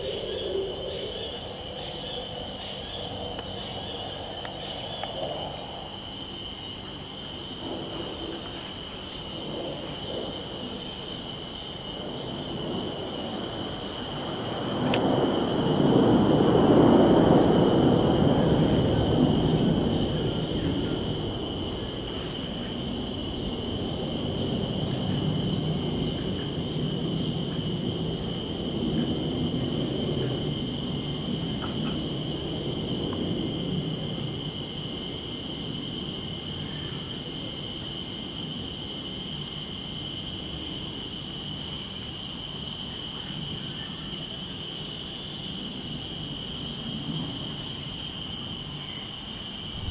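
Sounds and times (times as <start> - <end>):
insects chirring: 0.0 - 49.9
pulsing insect trill: 0.0 - 49.9.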